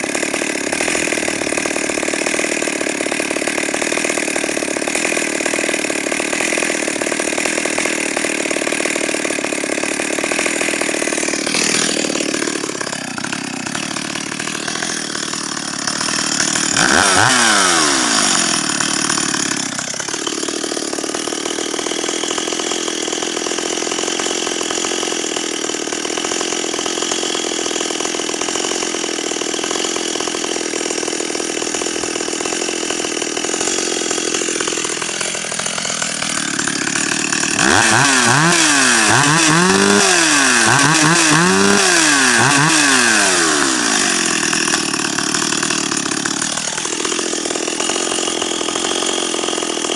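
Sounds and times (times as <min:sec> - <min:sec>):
chainsaw idling and revving: 0:00.0 - 0:49.9.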